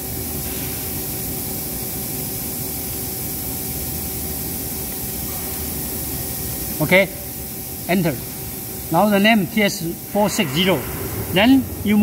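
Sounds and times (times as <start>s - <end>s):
machine equipment hum and hiss: 0.0s - 12.0s.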